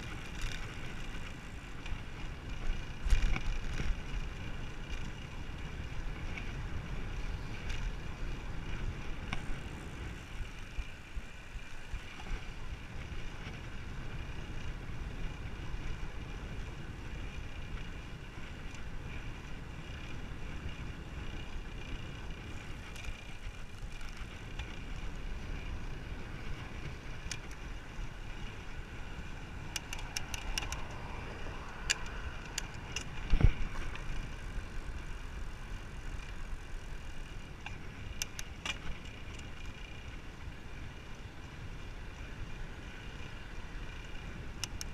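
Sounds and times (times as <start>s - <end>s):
bicycle tyre noise: 0.0s - 44.9s
wind rumble on microphone: 0.0s - 44.9s.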